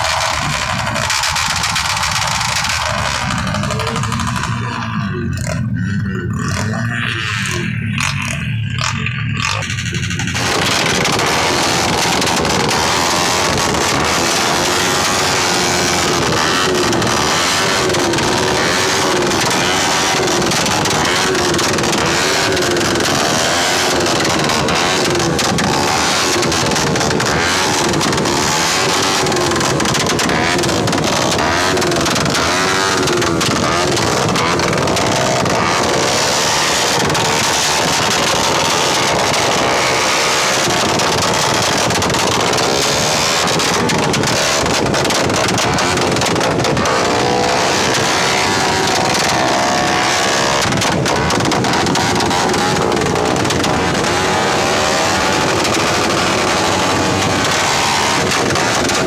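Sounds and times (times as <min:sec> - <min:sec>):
sharp exhaust pops: 0:00.0 - 0:59.0
vehicle engines revving: 0:00.0 - 0:59.0.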